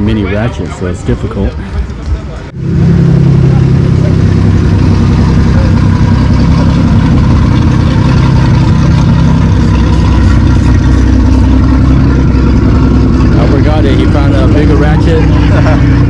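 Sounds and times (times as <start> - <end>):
loud engine idling: 2.5 - 16.0.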